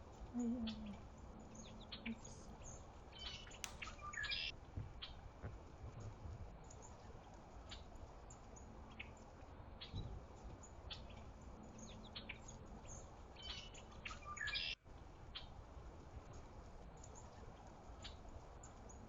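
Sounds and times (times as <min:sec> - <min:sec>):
small songbirds chirping: 0:00.0 - 0:19.0.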